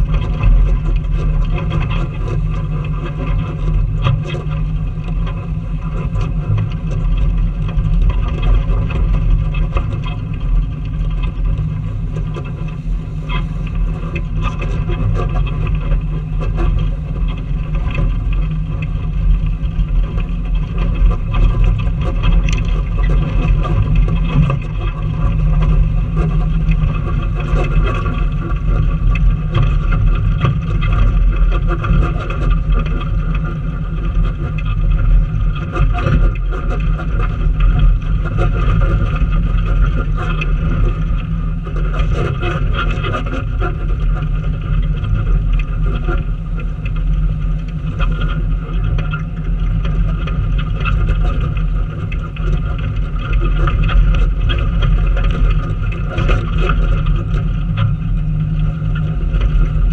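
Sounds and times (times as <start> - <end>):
tires crunching over gravel: 0.0 - 59.9
vehicle engine running low: 0.0 - 59.9.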